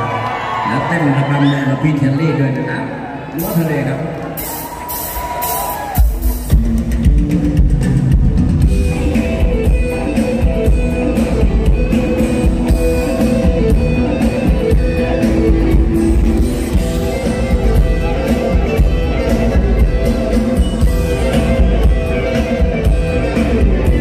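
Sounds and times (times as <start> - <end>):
electric guitars: 3.1 - 24.0
drum kit: 4.4 - 24.0.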